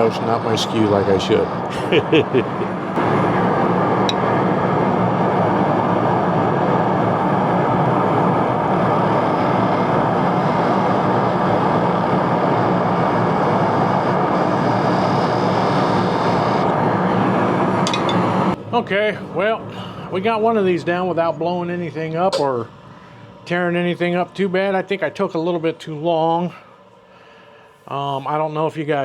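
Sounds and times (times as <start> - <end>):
workshop machine running: 0.0 - 29.0.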